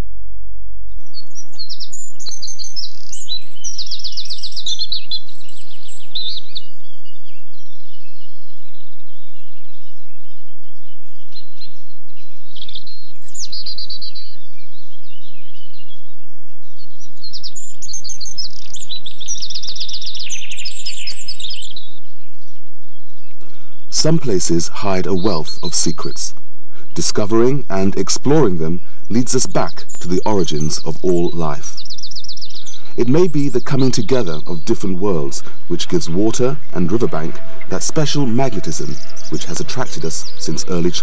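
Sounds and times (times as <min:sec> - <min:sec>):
songbirds singing: 0:00.9 - 0:41.0.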